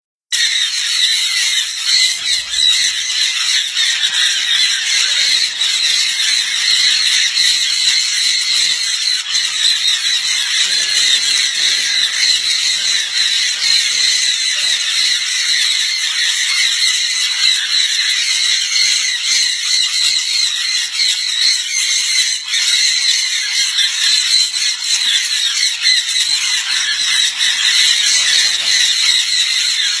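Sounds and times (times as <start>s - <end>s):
small birds chirping: 0.3s - 30.0s.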